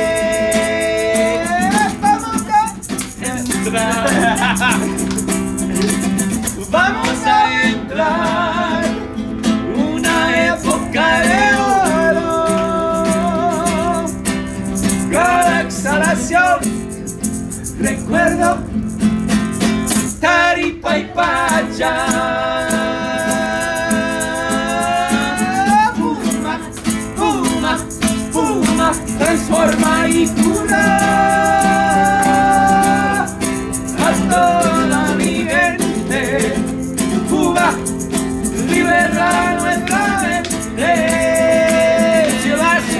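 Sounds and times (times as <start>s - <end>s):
men singing: 0.0s - 16.8s, 17.5s - 18.8s, 19.9s - 42.9s
acoustic guitar strumming: 0.0s - 42.9s
maraca shaking: 0.0s - 42.9s.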